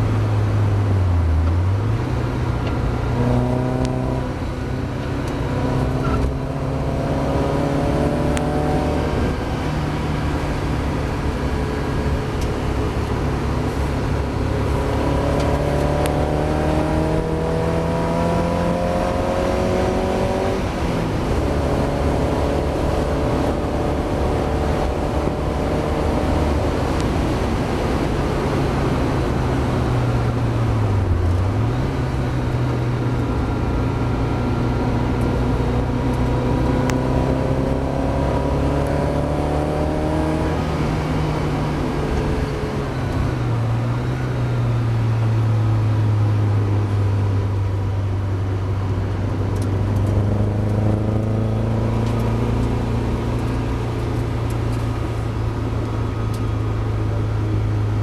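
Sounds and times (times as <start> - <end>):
car engine revving hard: 0.0 - 31.8, 33.2 - 42.6, 49.2 - 58.0.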